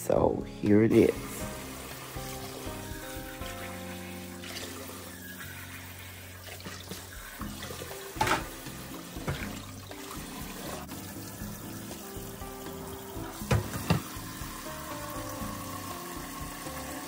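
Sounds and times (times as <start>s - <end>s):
running water from a tap: 0.9s - 17.0s.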